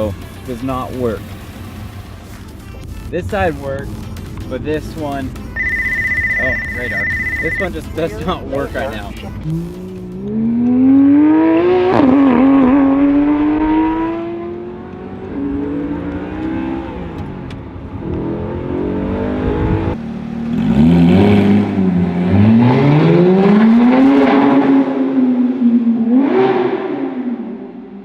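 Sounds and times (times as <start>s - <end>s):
car engine revving: 0.8s - 28.0s.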